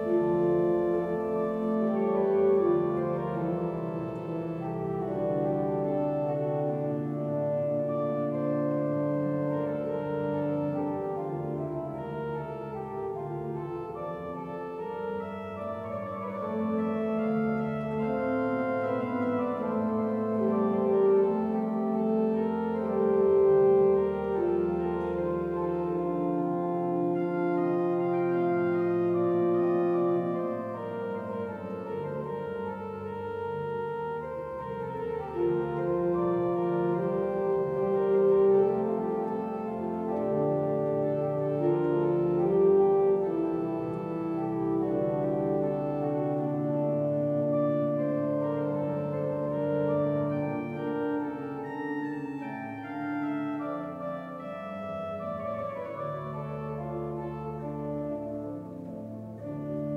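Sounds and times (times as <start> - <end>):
pipe organ chords: 0.0 - 59.9.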